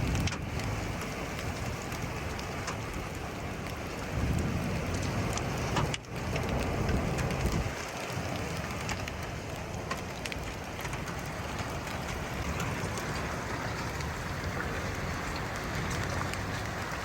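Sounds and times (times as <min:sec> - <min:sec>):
heavy rain: 0:00.0 - 0:17.0
raindrops ticking: 0:00.0 - 0:17.0.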